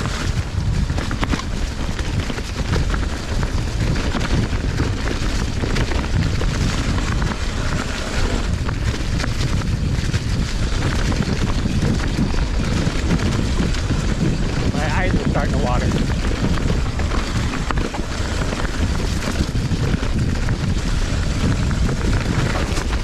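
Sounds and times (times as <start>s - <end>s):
bike rattling and clicking: 0.0s - 23.0s
tyres rumbling over dirt: 0.0s - 23.0s
wind buffeting microphone: 0.0s - 23.0s.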